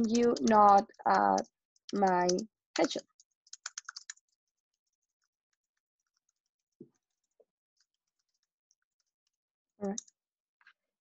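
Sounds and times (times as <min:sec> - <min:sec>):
typing on computer keyboard: 0:00.0 - 0:07.2, 0:07.8 - 0:10.2.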